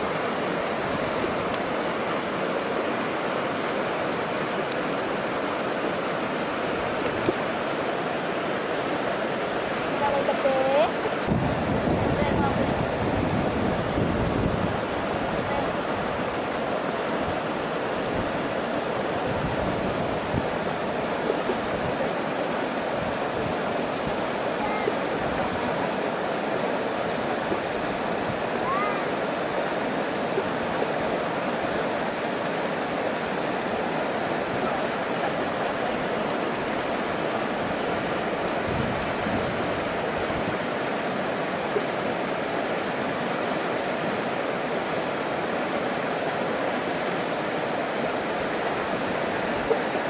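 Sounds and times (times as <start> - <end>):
river water rushing over rapids: 0.0 - 50.0.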